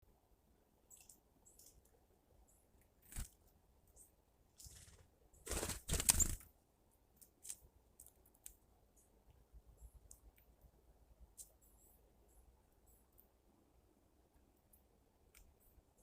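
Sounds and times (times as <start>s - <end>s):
small birds chirping: 0.8s - 6.4s, 7.1s - 16.0s.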